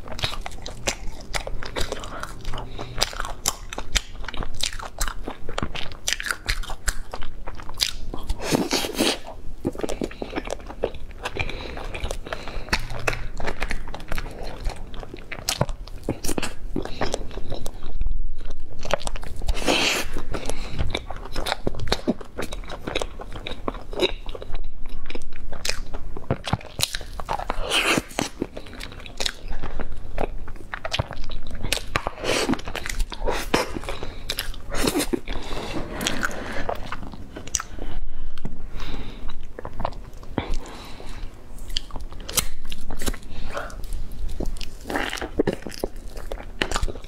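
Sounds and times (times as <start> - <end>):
chewing pastry: 0.0 - 47.0.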